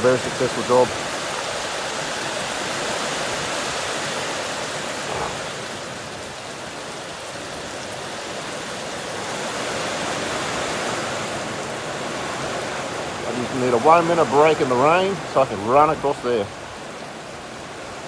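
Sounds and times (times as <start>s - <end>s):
rain pouring down: 0.0s - 18.0s.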